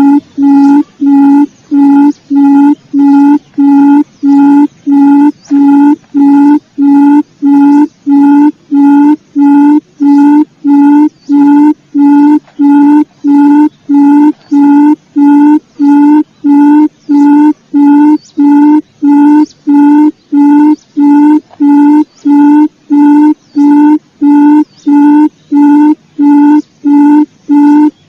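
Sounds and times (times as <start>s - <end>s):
quail call low hooting: 0.0s - 28.0s.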